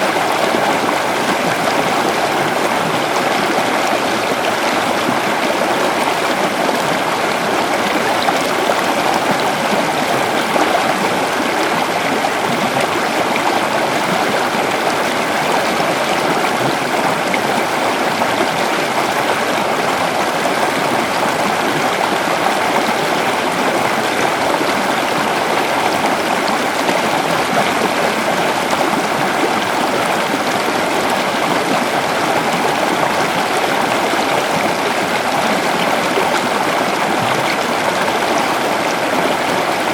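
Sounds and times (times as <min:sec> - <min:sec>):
waterfall and flowing water: 0:00.0 - 0:39.9.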